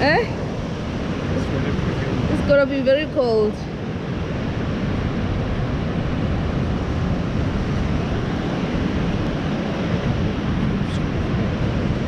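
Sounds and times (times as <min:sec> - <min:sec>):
waves breaking on beach: 0:00.0 - 0:12.0
wind rumbling on microphone: 0:00.0 - 0:12.0.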